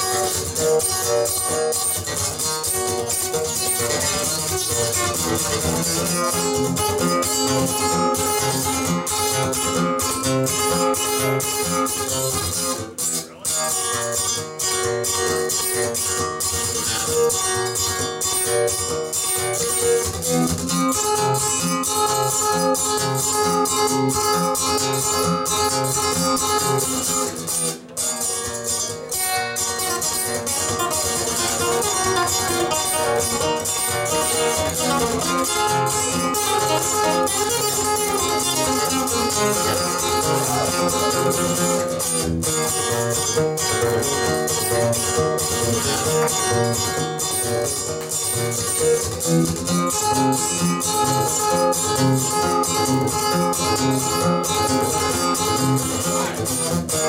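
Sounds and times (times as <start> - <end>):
plucked acoustic guitar: 0.0 - 57.0.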